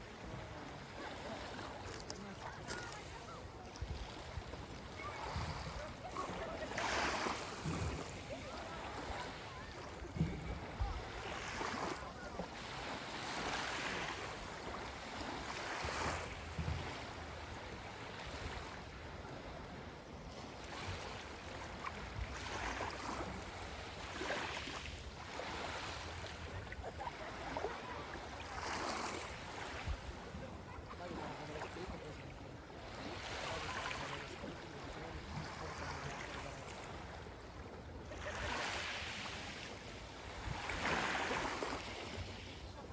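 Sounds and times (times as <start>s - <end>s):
sea waves washing onto beach: 0.0s - 42.9s.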